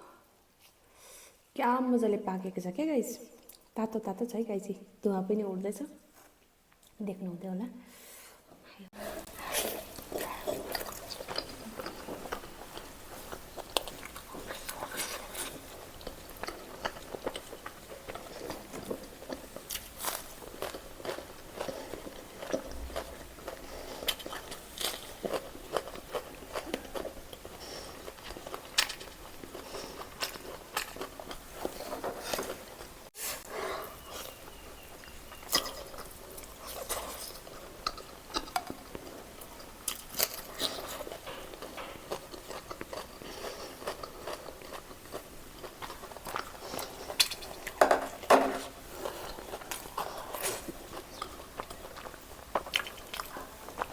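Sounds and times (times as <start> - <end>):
chewing chicken: 9.0 - 32.9, 33.5 - 53.9.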